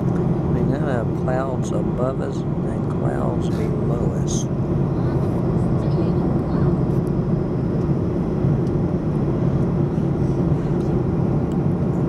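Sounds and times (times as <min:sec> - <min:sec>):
vehicle engine drone inside cabin: 0:00.0 - 0:12.0.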